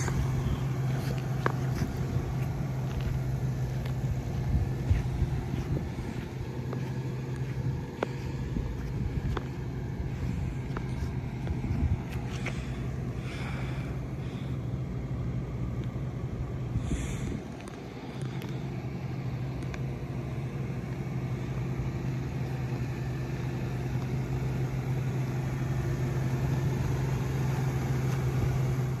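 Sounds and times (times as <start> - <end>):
truck engine running at low speed: 0.0 - 29.0.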